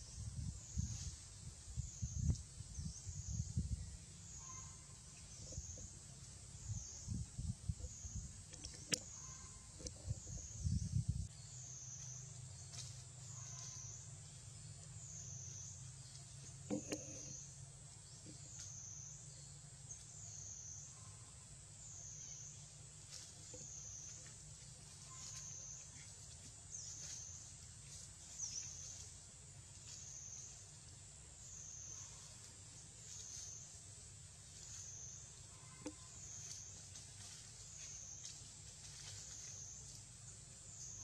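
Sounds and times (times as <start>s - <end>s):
insect drone: 0.0s - 41.0s.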